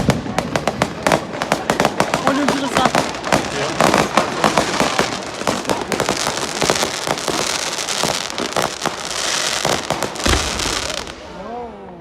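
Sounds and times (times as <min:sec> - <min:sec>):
fireworks pops and bangs: 0:00.0 - 0:11.4
fireworks crackling hiss: 0:00.0 - 0:11.6.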